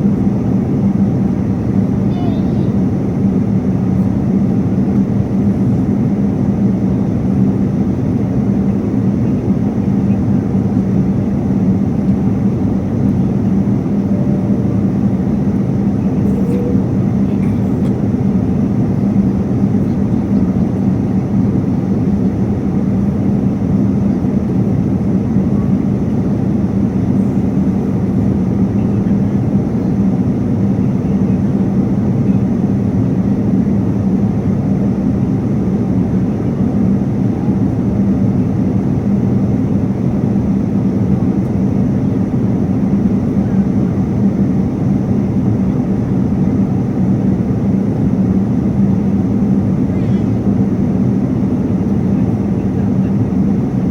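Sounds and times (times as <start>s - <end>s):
constant hum: 0.0s - 53.9s
jet engine and airflow rumble: 0.0s - 53.9s.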